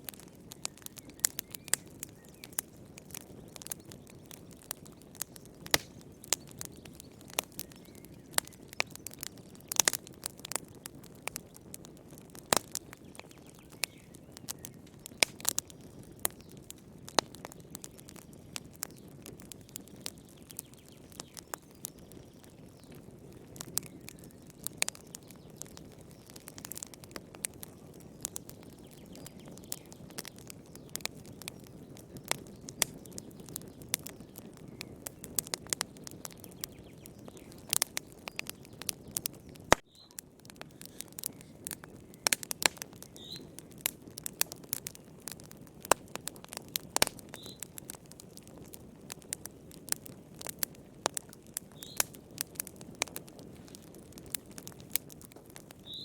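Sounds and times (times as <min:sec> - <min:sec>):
low rumble of burning: 0:00.0 - 0:56.0
wood fire popping and snapping: 0:00.0 - 0:56.0.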